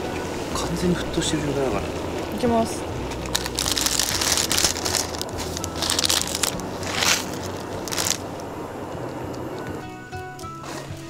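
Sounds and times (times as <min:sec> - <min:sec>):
gas burner rumble: 0:00.0 - 0:11.0
noodles hissing in boiling water: 0:00.4 - 0:09.8.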